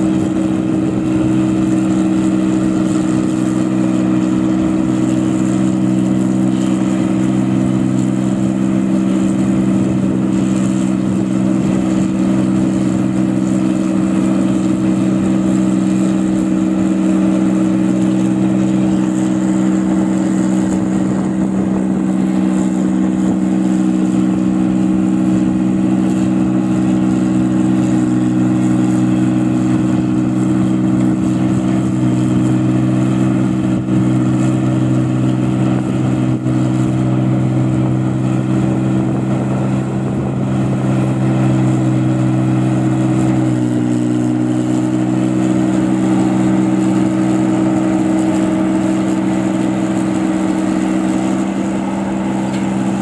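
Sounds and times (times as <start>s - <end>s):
combine harvester engine droning: 0.0s - 53.0s.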